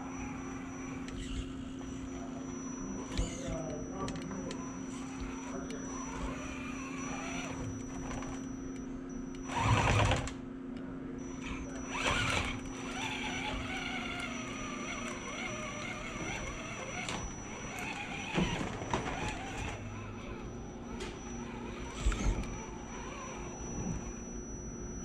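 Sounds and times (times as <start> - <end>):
electric motor whining: 0.0 - 8.8, 9.4 - 10.4, 11.3 - 25.0.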